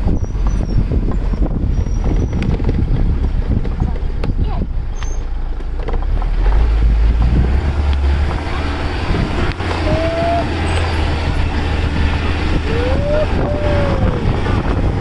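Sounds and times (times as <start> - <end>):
wind on microphone: 0.0 - 5.0, 6.4 - 15.0
engine and road rumble: 0.0 - 15.0.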